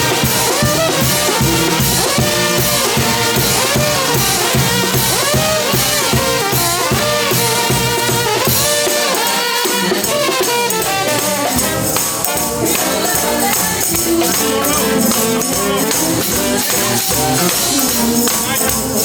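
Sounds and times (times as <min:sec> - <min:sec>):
brass band playing upbeat tune: 0:00.0 - 0:19.0
steady percussion: 0:00.0 - 0:19.0.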